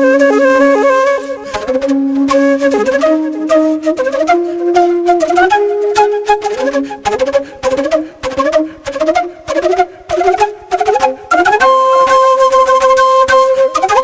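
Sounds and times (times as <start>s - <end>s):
flute music: 0.0s - 14.0s.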